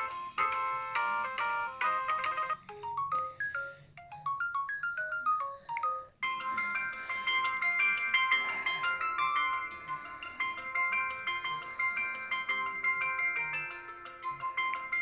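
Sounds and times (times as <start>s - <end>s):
phone ringtone chiming melody: 0.0s - 15.0s.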